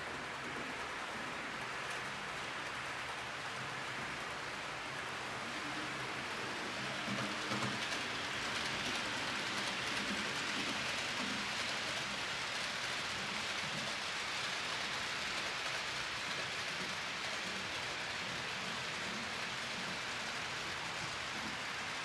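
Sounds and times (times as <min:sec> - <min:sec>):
model train wheels on rails: 0:00.0 - 0:22.0.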